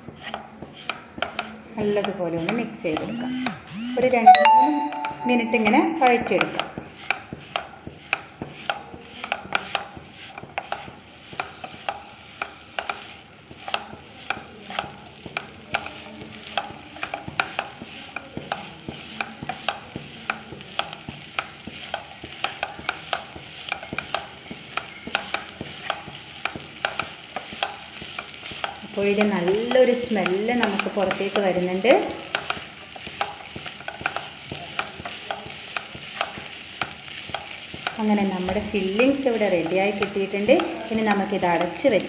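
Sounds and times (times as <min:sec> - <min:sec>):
spatula scraping frying pan: 0:00.0 - 0:01.6, 0:06.1 - 0:42.0.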